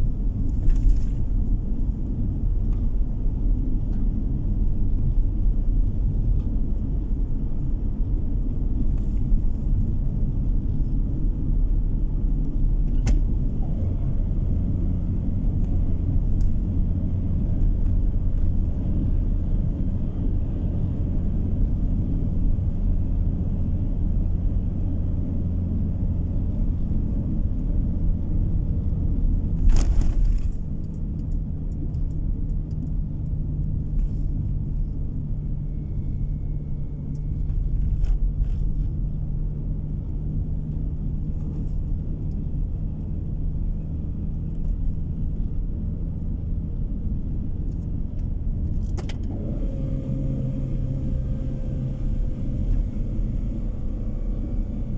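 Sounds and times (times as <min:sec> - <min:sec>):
car engine rumble: 0:00.0 - 0:54.9
tyre road noise: 0:00.0 - 0:54.9.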